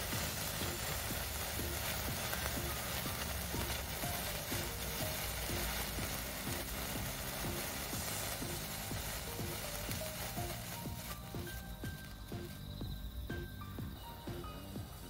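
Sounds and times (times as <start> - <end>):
background music with beat: 0.0 - 15.0
sparkler fizzing and crackling: 0.0 - 15.0.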